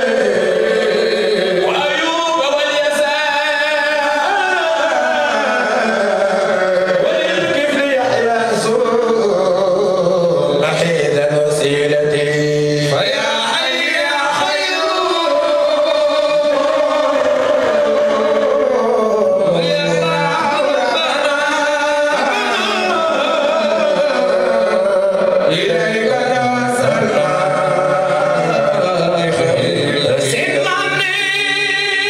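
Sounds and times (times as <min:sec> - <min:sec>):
men singing devotional chant: 0:00.0 - 0:32.0.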